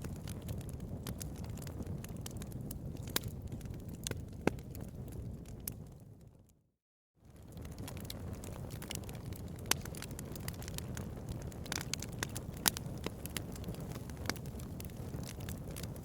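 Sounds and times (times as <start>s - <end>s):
bonfire crackling: 0.0s - 6.4s, 7.3s - 16.0s.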